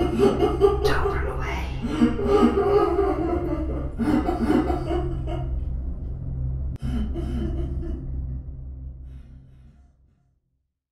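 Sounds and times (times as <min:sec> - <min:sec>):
low rumbling drone: 0:00.0 - 0:10.5.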